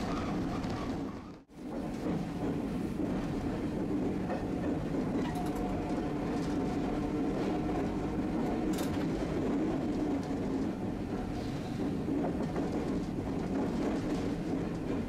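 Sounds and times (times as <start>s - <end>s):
streetcar wheels and motors rumbling: 0.0s - 15.0s.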